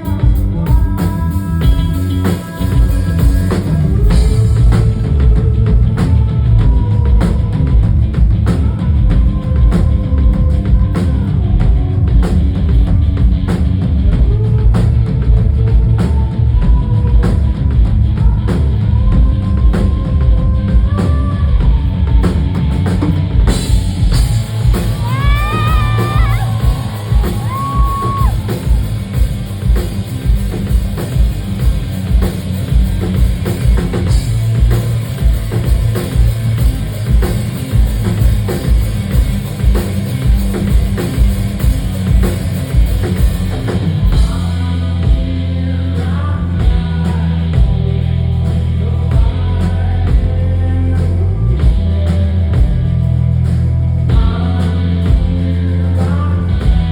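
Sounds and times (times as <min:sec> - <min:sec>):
person singing: 0:00.0 - 0:13.2, 0:14.0 - 0:56.9
rock band playing: 0:00.0 - 0:56.9.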